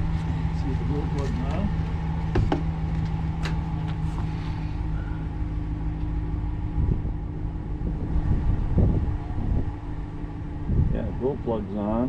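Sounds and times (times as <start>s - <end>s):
heater fan running: 0.0s - 12.0s
truck engine idling: 0.0s - 12.0s.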